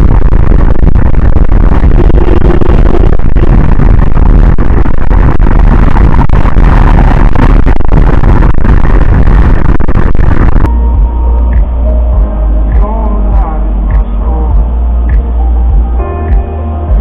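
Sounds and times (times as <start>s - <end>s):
distorted vehicle road rumble: 0.0s - 17.0s.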